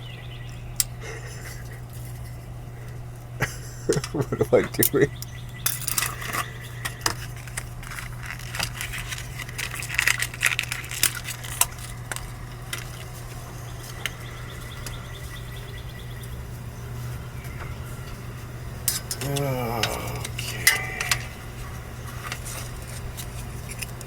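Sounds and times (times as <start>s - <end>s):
low hum: 0.0s - 24.0s
hand tools clicking and scraping metal: 0.8s - 15.4s, 17.0s - 24.0s.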